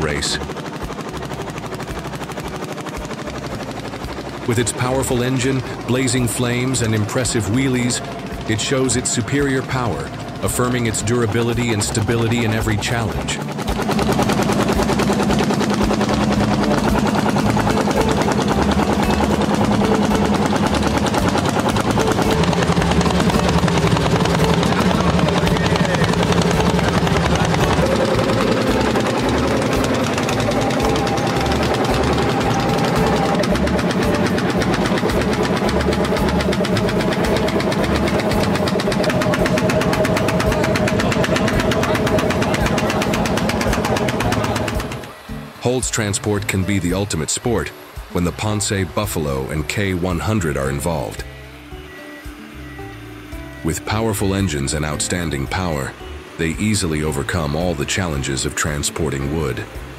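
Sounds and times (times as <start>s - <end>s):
tractor engine running under load: 0.0s - 59.9s.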